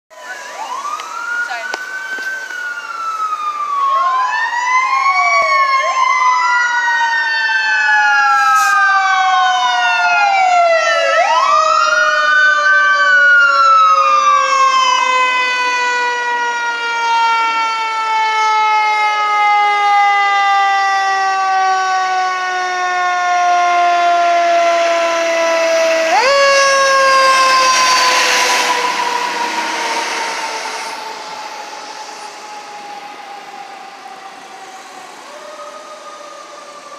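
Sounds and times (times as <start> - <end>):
fire truck siren wailing: 0.1 - 36.9
truck engine and road noise: 0.1 - 36.9.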